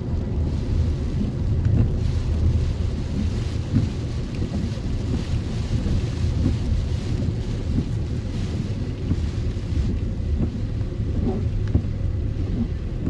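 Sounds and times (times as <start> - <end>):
rain on a vehicle: 0.0 - 13.0
truck engine and road noise: 0.0 - 13.0.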